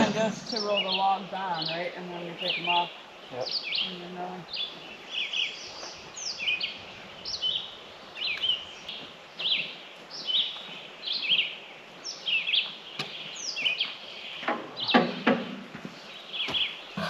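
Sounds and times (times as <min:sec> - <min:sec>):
faint outdoor background noise: 0:00.0 - 0:17.0
songbird chirping: 0:00.0 - 0:17.0.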